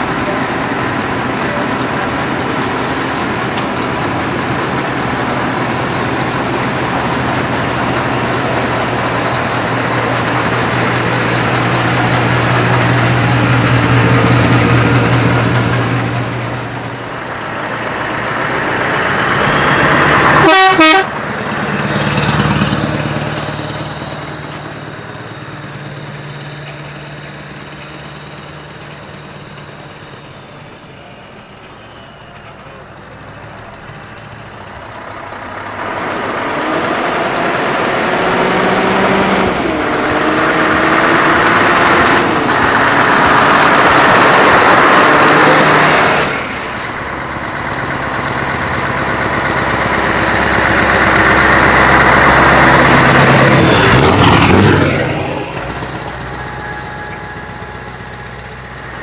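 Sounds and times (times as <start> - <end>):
truck engines idling: 0.0 - 59.0
trucks pulling away loudly: 0.0 - 59.0.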